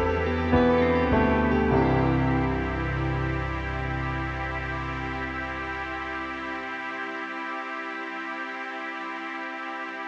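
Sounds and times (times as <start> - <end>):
sustained background music chords: 0.0 - 10.0.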